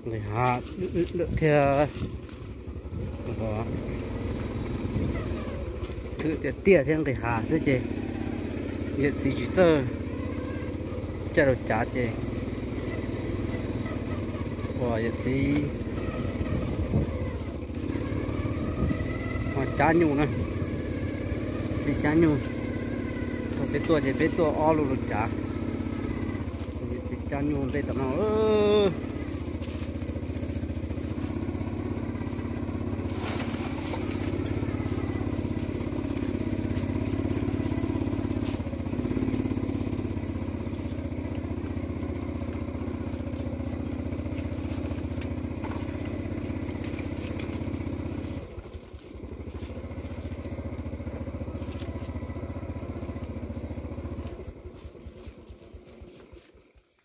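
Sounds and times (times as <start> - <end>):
small motorcycle engine running: 0.0 - 57.0.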